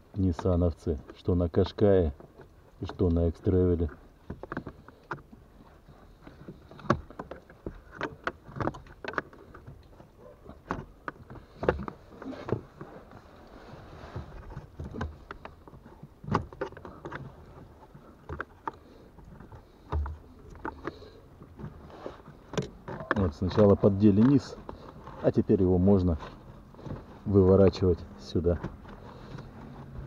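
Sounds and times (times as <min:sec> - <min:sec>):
plastic clicks and rustling: 0:00.1 - 0:30.0.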